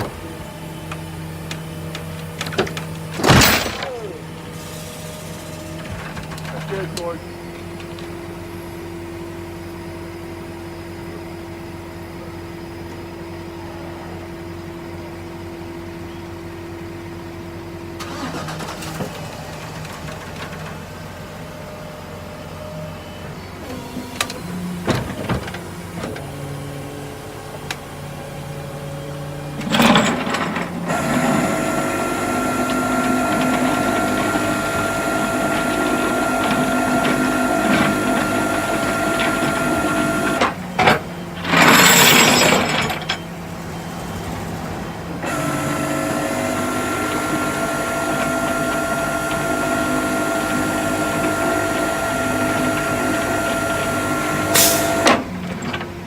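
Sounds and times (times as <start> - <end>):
hydraulics whining: 0.0 - 56.0.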